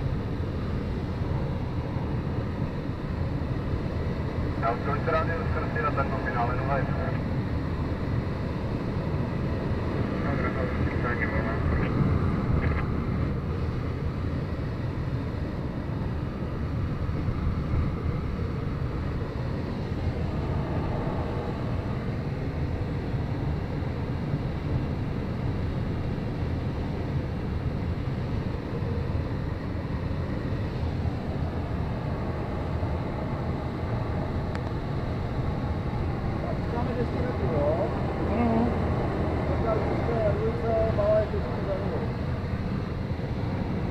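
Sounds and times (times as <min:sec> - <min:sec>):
airflow rushing around cockpit: 0:00.0 - 0:43.9.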